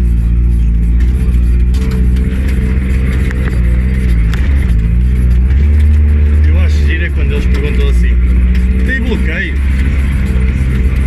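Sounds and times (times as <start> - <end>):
vehicle engine running under load: 0.0 - 11.0.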